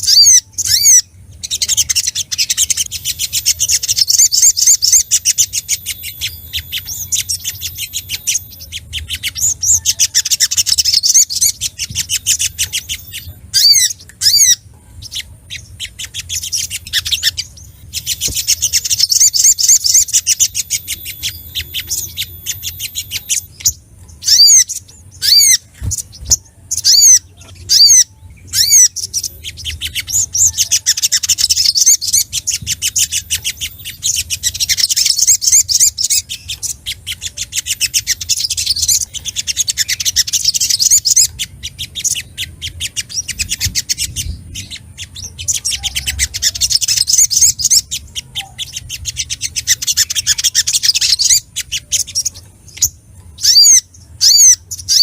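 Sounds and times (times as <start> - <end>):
bird chattering trills: 0.0 - 55.0.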